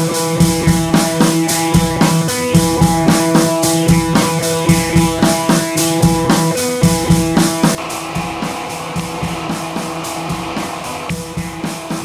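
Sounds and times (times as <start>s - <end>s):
drum kit steady beat: 0.0s - 12.0s
guitar: 0.0s - 12.0s.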